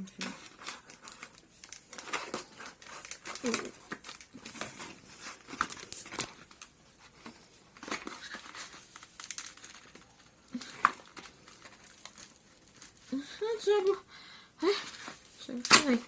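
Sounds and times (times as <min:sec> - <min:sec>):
plastic packaging crinkling: 0:00.0 - 0:14.0, 0:14.6 - 0:16.0.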